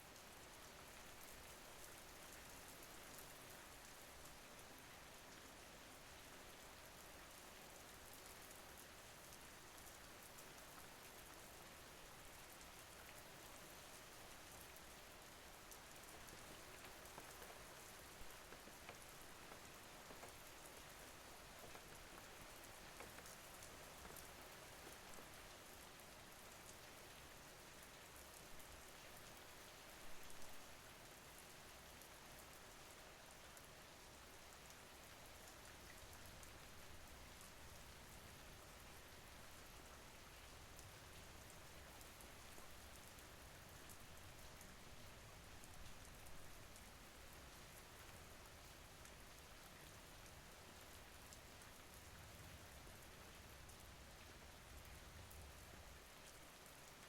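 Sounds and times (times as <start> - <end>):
faint rain falling: 0.0 - 57.0.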